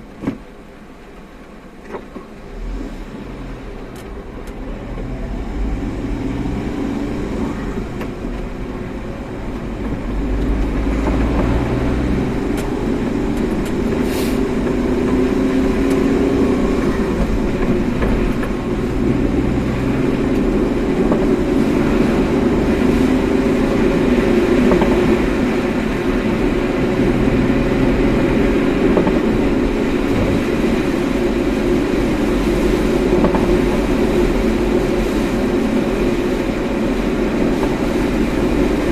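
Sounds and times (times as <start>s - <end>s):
car road and tyre rumble: 0.0s - 38.9s.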